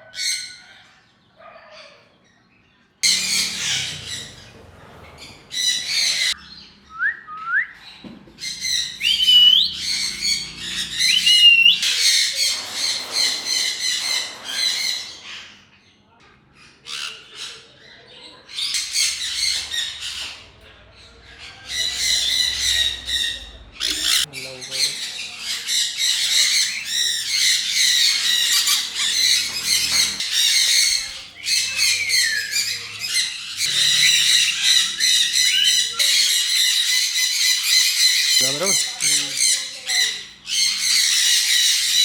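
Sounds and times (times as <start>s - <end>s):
parrots squawking and chattering: 0.0s - 6.8s, 7.8s - 42.0s.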